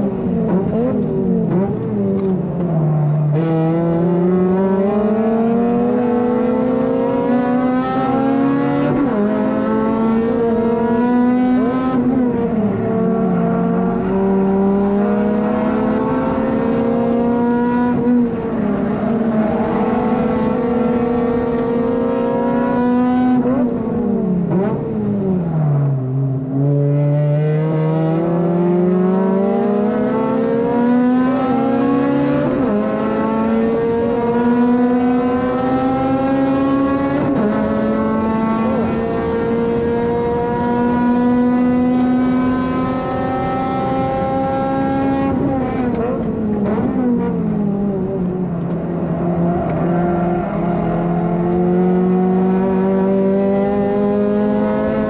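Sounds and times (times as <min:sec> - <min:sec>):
car braking and downshifting: 0:00.0 - 0:55.0
car engine revving: 0:00.0 - 0:55.0.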